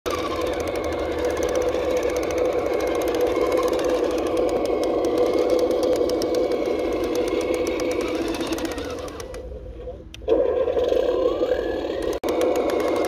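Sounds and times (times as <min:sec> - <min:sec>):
toy truck motor drone: 0:00.1 - 0:09.5, 0:10.3 - 0:13.0
rising whine: 0:00.1 - 0:13.0.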